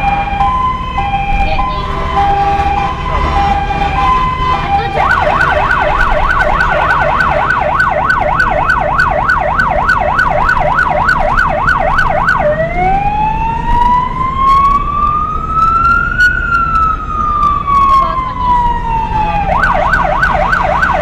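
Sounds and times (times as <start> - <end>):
emergency vehicle siren: 0.0 - 21.0
vehicle engine rumbling: 0.0 - 21.0.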